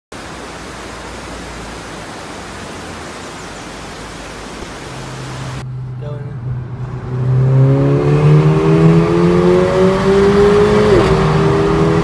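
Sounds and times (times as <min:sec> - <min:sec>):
car engine humming: 0:00.2 - 0:12.0.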